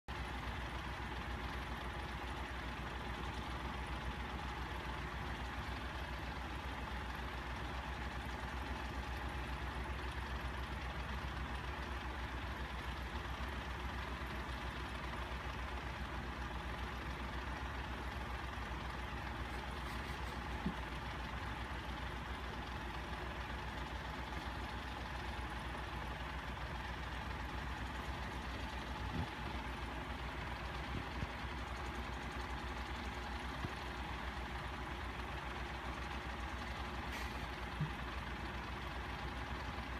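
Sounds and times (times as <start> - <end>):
low machine hum with whine: 0.1 - 39.9.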